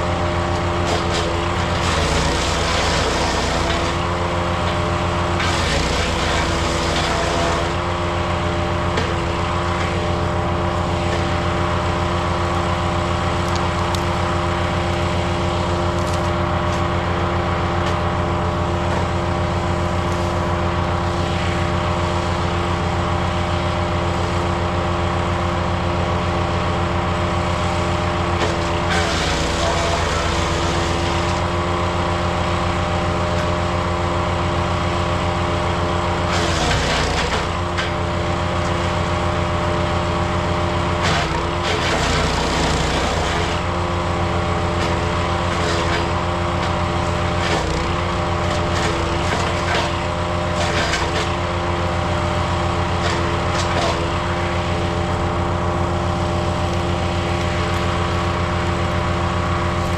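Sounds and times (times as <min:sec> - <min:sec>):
wood chipper engine running: 0:00.0 - 0:59.9.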